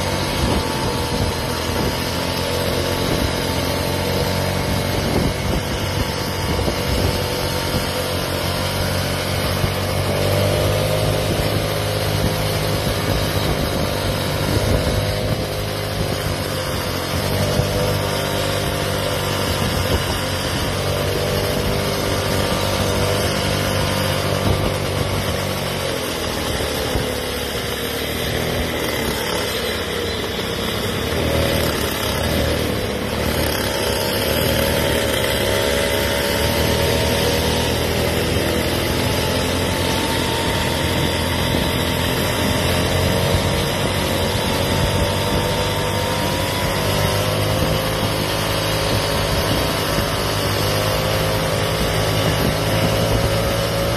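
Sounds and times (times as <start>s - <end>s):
small scooter engines running: 0.0s - 53.9s
wind and road noise: 0.0s - 53.9s.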